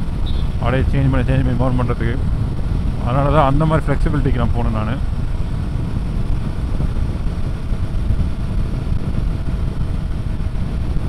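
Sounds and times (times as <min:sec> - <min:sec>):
motorcycle engine drone: 0:00.0 - 0:11.0
wind rush: 0:00.0 - 0:11.0.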